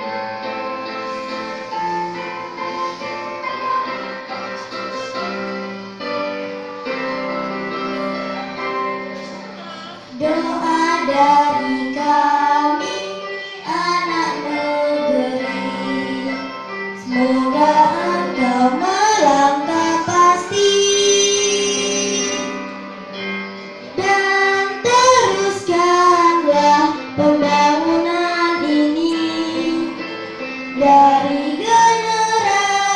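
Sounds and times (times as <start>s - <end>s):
keyboard accompaniment: 0.0s - 32.9s
girl singing into microphone: 2.8s - 7.2s, 9.1s - 22.7s, 23.8s - 32.9s.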